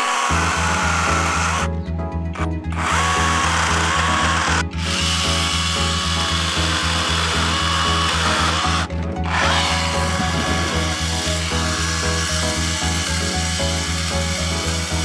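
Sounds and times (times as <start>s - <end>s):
chainsaw cutting branches: 0.0s - 1.7s, 2.3s - 15.0s
music with bass beat: 0.7s - 15.0s.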